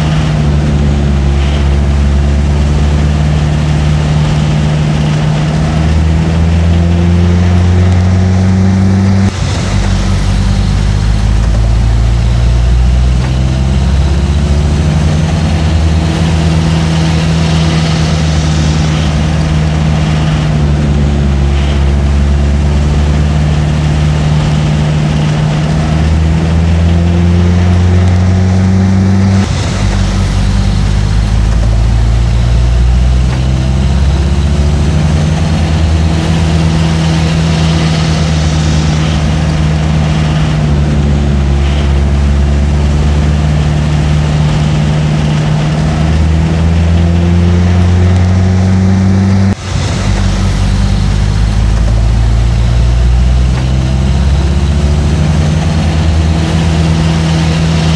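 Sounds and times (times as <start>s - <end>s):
truck engine running: 0.0s - 57.9s.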